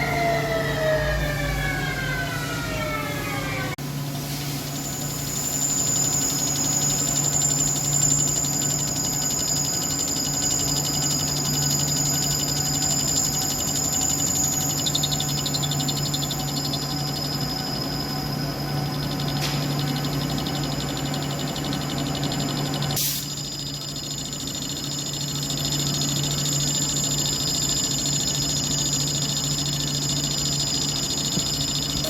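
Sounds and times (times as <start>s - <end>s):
lathe hum and high-pitched whine: 0.0s - 32.0s.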